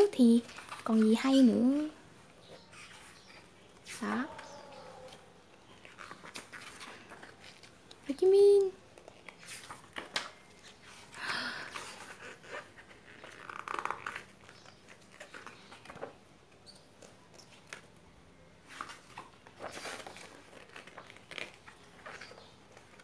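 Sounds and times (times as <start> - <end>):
glossy pages turning: 0.4 - 1.8, 2.4 - 8.1, 8.9 - 17.9, 18.6 - 23.0.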